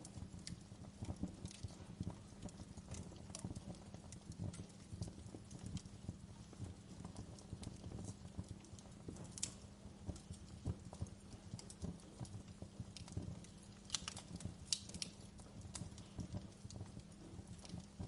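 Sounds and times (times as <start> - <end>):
loud fire cracks: 0.0 - 18.0
wood fire crackling: 0.0 - 18.0.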